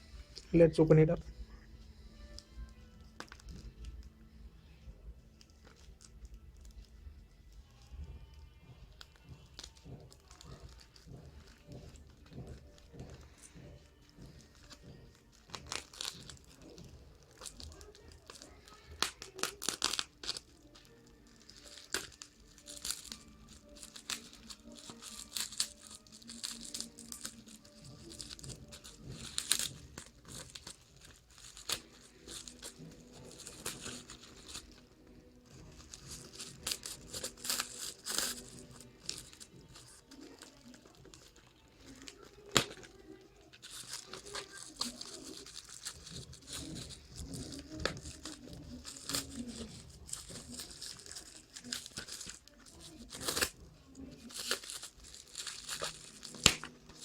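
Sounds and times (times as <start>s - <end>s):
packaging tearing and crinkling: 2.2s - 4.1s, 9.0s - 57.0s.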